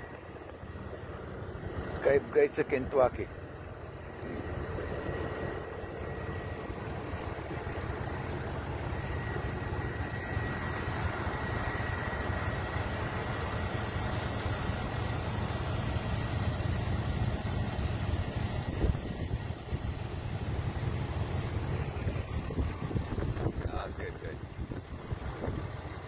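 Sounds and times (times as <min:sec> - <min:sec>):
truck engines idling: 0:00.0 - 0:26.0.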